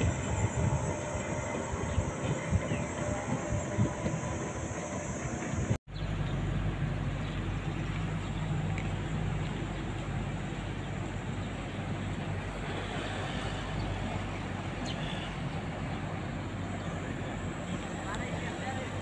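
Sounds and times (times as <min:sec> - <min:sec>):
low engine hum: 0:00.0 - 0:19.0
traffic noise: 0:00.0 - 0:19.0.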